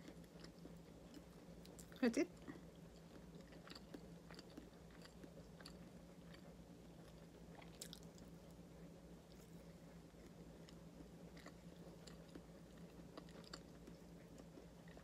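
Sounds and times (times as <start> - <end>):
faint chewing: 0.0 - 8.6, 9.2 - 15.0.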